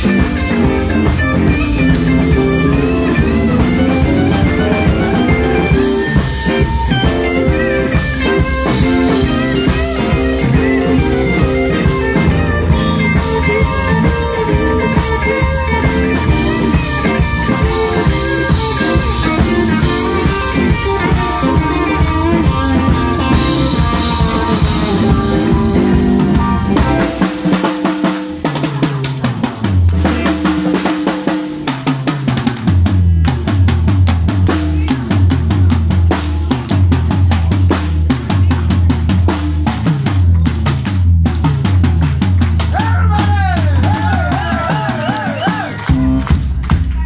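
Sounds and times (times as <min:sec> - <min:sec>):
blues band playing: 0:00.0 - 0:47.0
deep bass line: 0:00.0 - 0:47.0.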